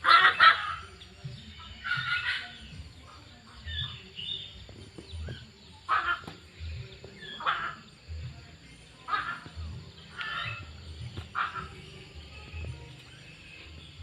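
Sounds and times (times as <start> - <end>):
faint high bird chirps: 0.0 - 14.0
harsh bird calls: 0.0 - 14.0.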